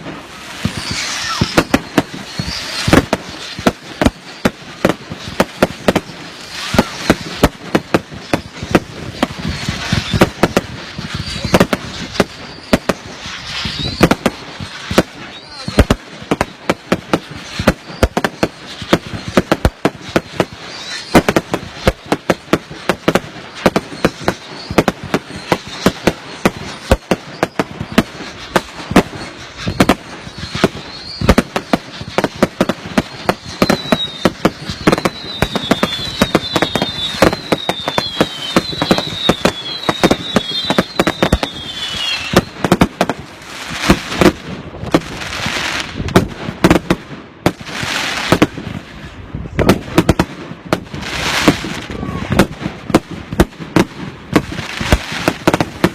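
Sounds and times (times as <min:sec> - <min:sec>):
falling firework whistles: 0:00.0 - 0:55.9
firework bangs and crackles: 0:00.0 - 0:55.9.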